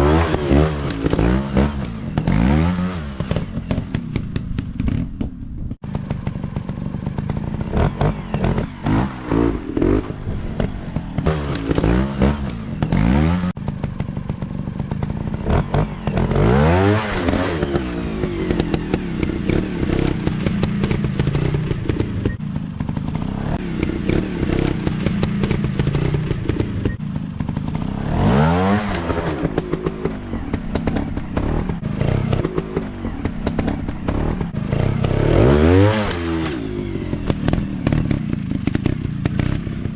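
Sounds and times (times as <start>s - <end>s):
dirt bike engines revving: 0.0s - 4.8s, 5.9s - 39.9s.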